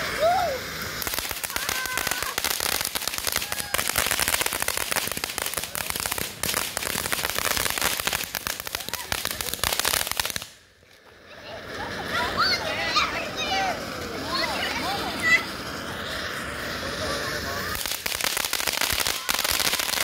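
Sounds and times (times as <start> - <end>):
firework fountain crackling: 0.0 - 20.0.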